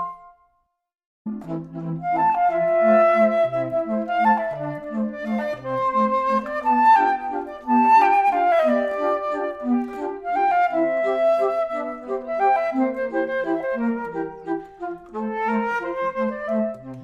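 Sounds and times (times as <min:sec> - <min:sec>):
background music melody: 0:00.0 - 0:00.7, 0:01.3 - 0:17.0.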